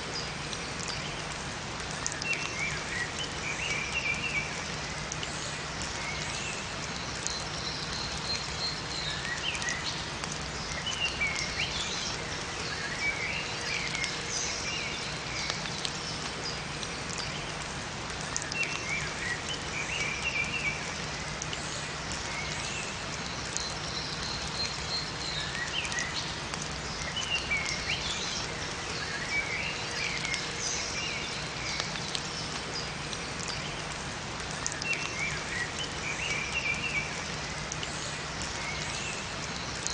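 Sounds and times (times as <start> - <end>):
steady rain in forest: 0.0 - 39.9
songbirds chirping: 0.1 - 39.9.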